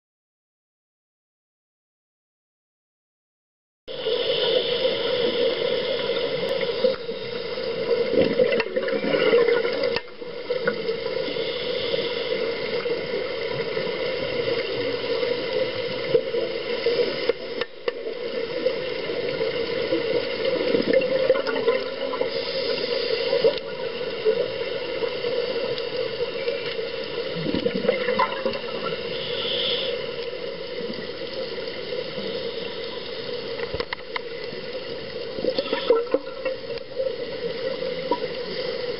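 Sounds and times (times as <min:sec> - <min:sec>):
regulator bubbles gurgling: 0:03.9 - 0:38.9
underwater rush and hum: 0:03.9 - 0:38.9.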